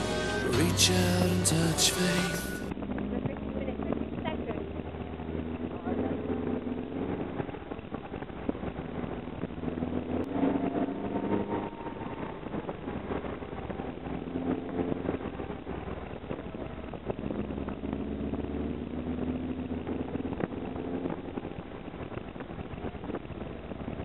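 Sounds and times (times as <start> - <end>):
car engine running: 0.0 - 24.0
road and wind noise: 0.0 - 24.0.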